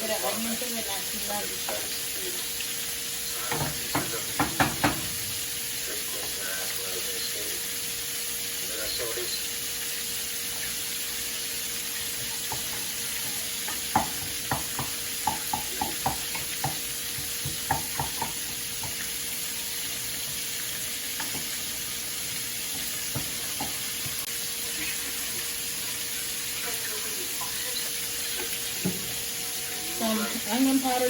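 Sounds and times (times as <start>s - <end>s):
utensil stirring against pan: 0.0s - 8.8s, 9.4s - 31.0s
garlic and onion sizzling in butter: 0.0s - 31.0s.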